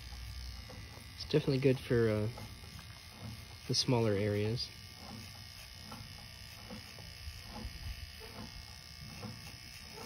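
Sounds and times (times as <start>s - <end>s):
electric pet clipper whining: 0.0s - 10.0s.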